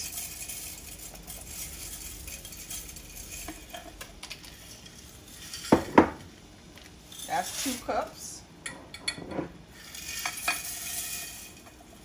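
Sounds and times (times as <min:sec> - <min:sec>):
dry pasta clattering into pot: 0:00.0 - 0:07.9, 0:09.8 - 0:12.0
water boiling in a pot: 0:00.0 - 0:12.0.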